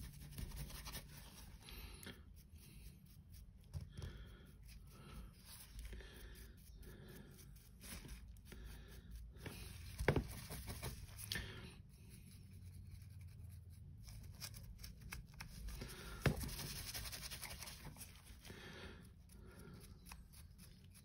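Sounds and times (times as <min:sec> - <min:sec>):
stiff brush scratching: 0:00.0 - 0:01.7, 0:02.3 - 0:21.0.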